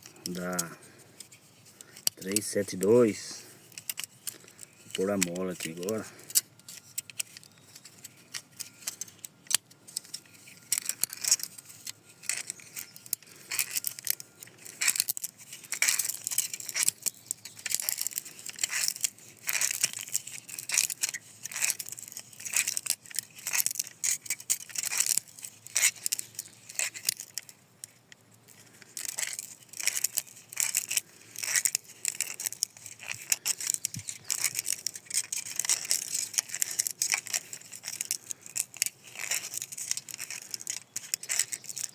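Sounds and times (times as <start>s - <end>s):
metal spring clicking and scraping: 0.0s - 41.9s.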